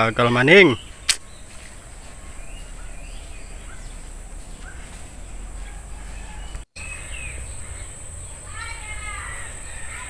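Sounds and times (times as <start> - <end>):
bird chirps: 0.0 - 10.0.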